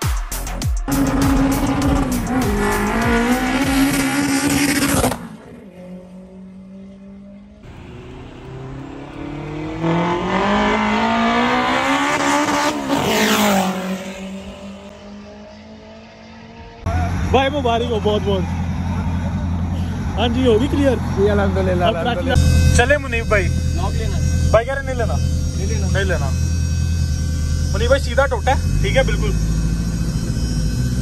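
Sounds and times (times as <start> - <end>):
car engine pulling hard: 0.9 - 31.0.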